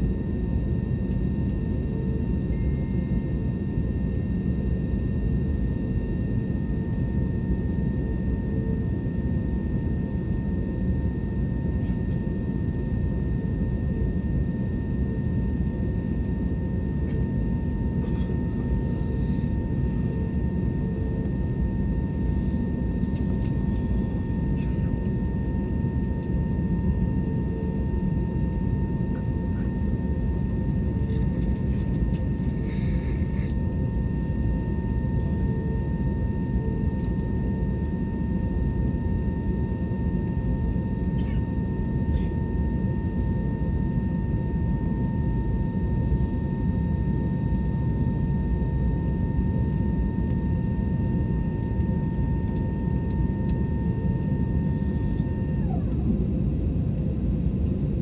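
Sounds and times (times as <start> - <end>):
airliner engine and airflow roar: 0.0 - 58.0
steady engine whine: 0.0 - 58.0.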